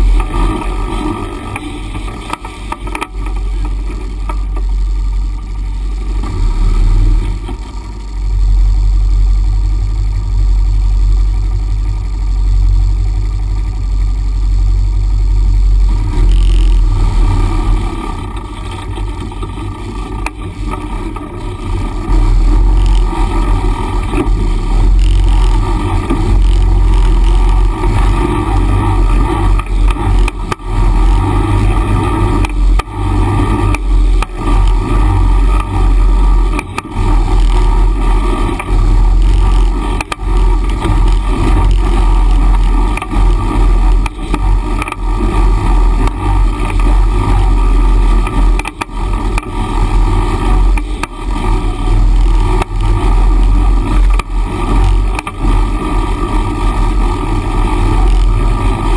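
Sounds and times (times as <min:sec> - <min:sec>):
off-road vehicle engines rumbling: 0:00.0 - 0:58.9.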